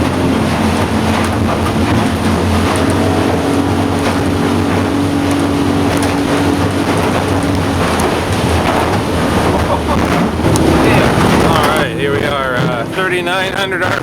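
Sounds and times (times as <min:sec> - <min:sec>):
outboard motor at high revs: 0:00.0 - 0:14.0
rushing water: 0:00.0 - 0:14.0
wind noise: 0:00.0 - 0:14.0.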